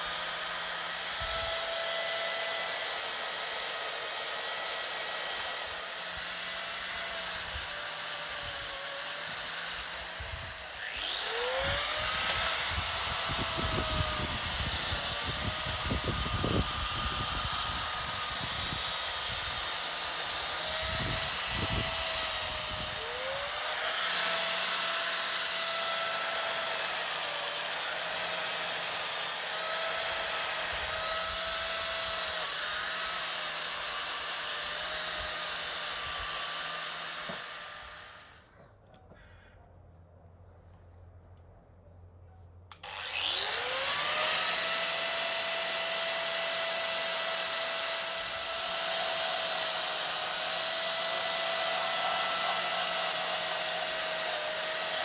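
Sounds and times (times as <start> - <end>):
electric power tool whining: 0.0 - 38.5, 42.7 - 55.0.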